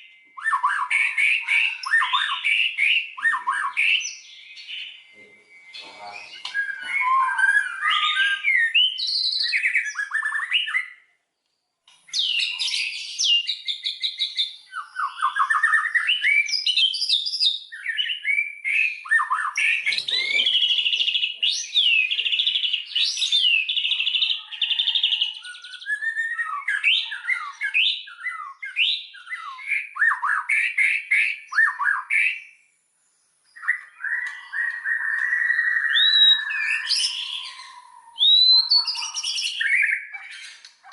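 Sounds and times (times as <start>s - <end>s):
bird singing whistles and trills: 0.0s - 11.1s, 12.1s - 32.7s, 33.4s - 40.9s.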